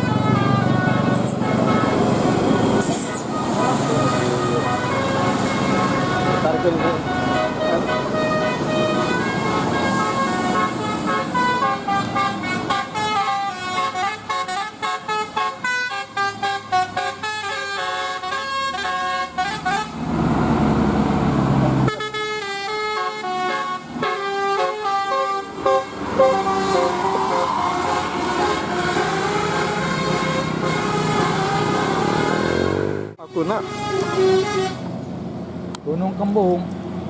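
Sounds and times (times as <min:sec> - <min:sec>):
musical air horn playing tune: 0:00.0 - 0:20.0, 0:21.9 - 0:34.9.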